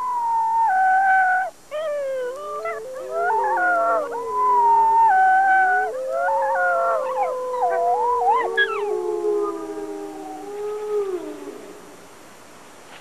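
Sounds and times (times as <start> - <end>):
wolves howling: 0.0 - 12.0.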